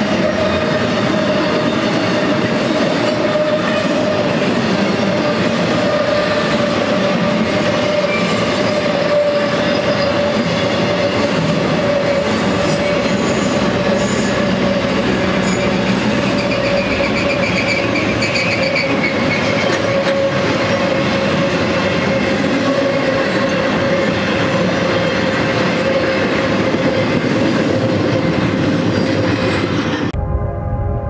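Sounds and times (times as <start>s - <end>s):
freight train wheels rumbling: 0.0s - 30.2s.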